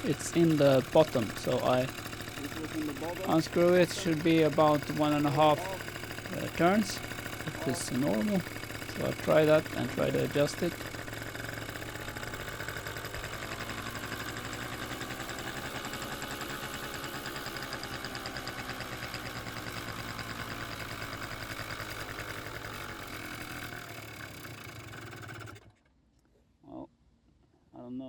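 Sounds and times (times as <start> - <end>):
scooter engine idling: 0.0 - 25.8.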